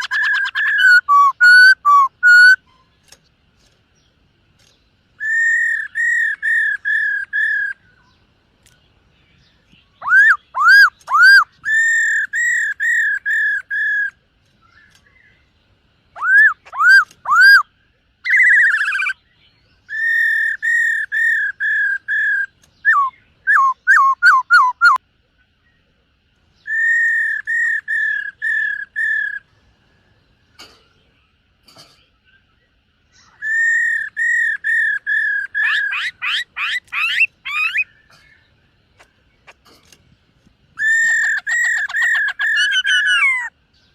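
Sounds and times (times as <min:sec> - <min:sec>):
bird whistled song: 0:00.0 - 0:03.2, 0:04.6 - 0:25.0, 0:26.5 - 0:30.5, 0:32.2 - 0:39.6, 0:40.8 - 0:43.9.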